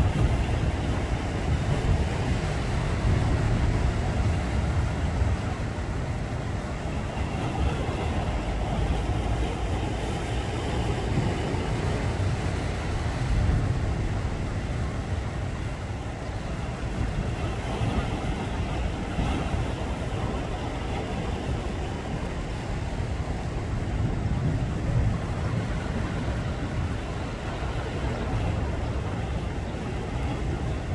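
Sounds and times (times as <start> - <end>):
sea water rushing: 0.0 - 30.9
wind buffeting microphone: 0.0 - 30.9.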